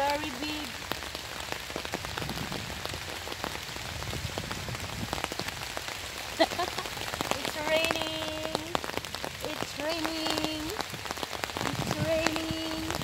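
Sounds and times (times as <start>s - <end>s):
rain ticking on an umbrella: 0.0s - 13.0s.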